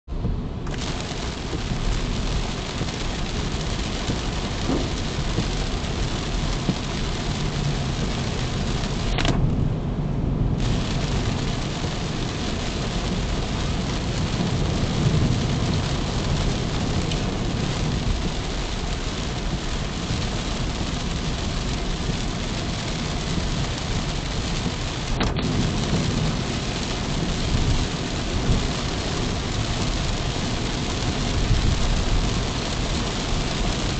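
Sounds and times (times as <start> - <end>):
low engine rumble: 0.1 - 33.9
tyres hissing on wet road: 0.6 - 9.3, 10.5 - 33.9.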